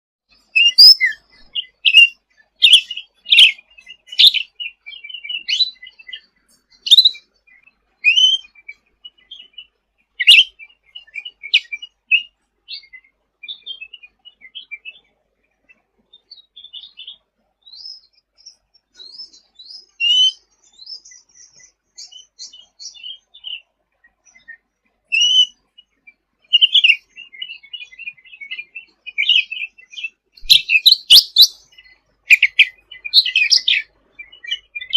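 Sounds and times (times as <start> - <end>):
bird chirping and trilling: 0.3 - 15.1, 15.7 - 34.9.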